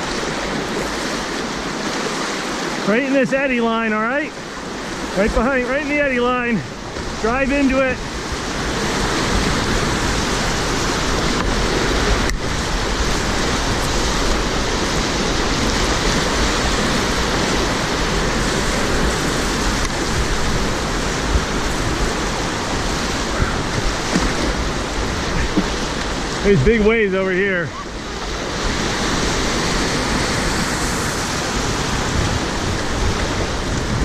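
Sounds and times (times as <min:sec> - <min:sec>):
whitewater rapids rushing: 0:00.0 - 0:34.0.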